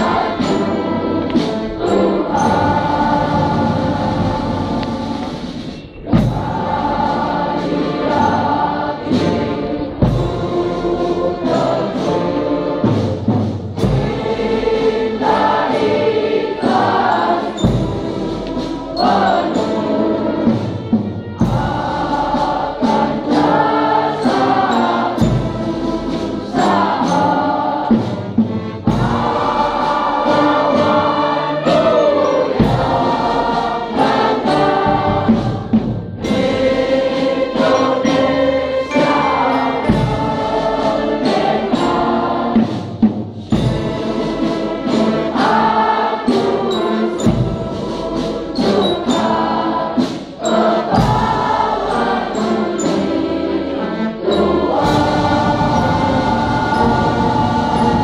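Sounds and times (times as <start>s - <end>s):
brass band playing: 0.0s - 58.0s
children's choir singing: 0.0s - 58.0s
drum beats: 0.0s - 58.0s.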